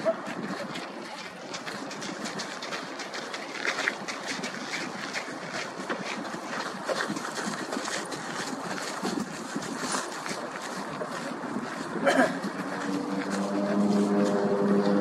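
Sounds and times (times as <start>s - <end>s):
open-air ambience: 0.0s - 15.0s.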